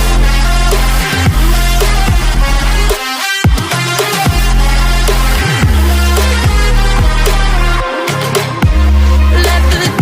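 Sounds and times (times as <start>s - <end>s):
dubstep music with heavy bass: 0.0s - 10.0s.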